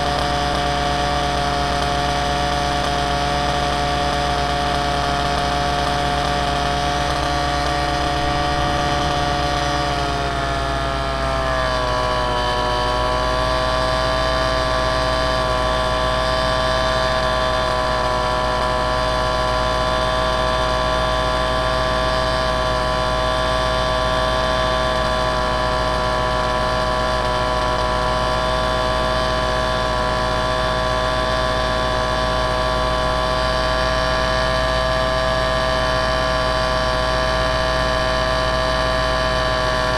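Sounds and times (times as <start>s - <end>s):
aircraft motor whine: 0.0s - 39.9s.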